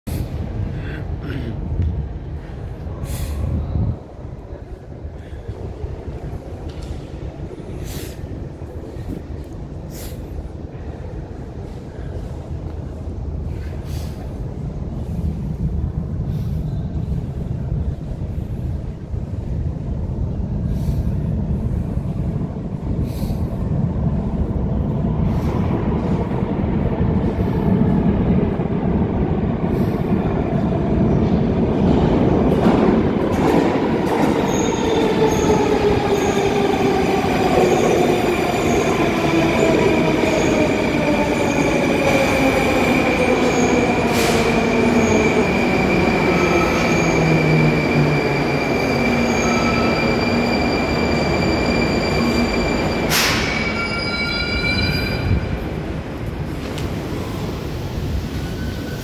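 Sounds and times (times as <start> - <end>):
metro train rumble: 0.0 - 59.0.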